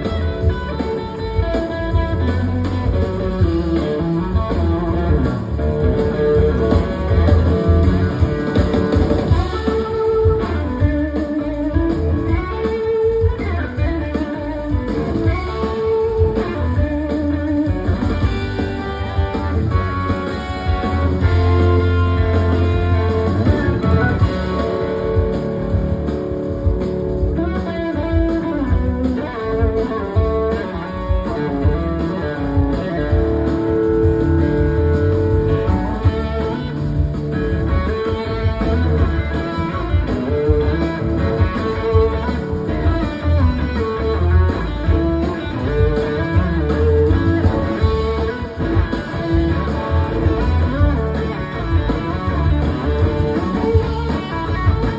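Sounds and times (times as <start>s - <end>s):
bass and drums: 0.0s - 54.9s
electric guitar solo: 0.0s - 54.9s.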